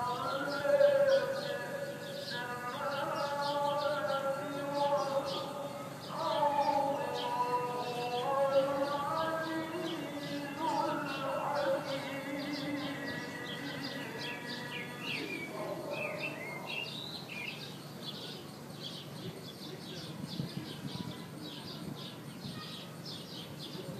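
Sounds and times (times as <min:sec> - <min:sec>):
call to prayer: 0:00.0 - 0:23.9
small birds chirping: 0:00.0 - 0:23.9.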